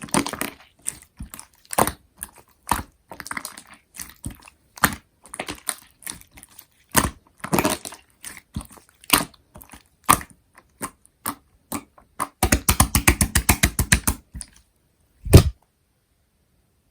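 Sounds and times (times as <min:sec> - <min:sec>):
slime popping: 0:00.0 - 0:14.6, 0:15.2 - 0:15.6
slime squelching: 0:00.0 - 0:14.6, 0:15.2 - 0:15.6.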